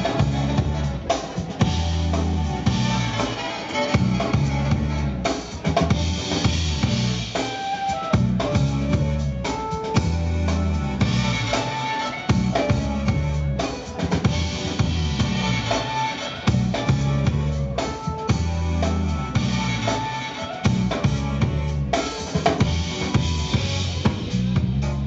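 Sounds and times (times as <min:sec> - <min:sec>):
deep bassline: 0:00.0 - 0:25.0
drum kit beat: 0:00.0 - 0:25.0
held keyboard notes: 0:00.0 - 0:25.0.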